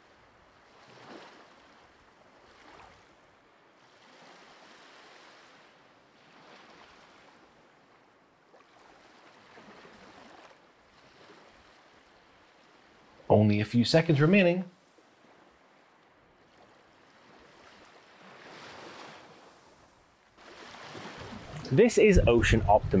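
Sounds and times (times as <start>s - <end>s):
faint ocean waves washing in: 0.0s - 23.0s.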